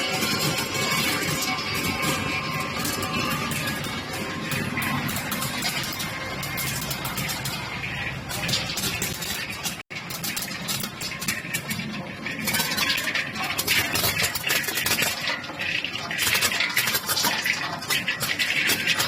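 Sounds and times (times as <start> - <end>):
seeds clattering through sorter machine: 0.0 - 19.0.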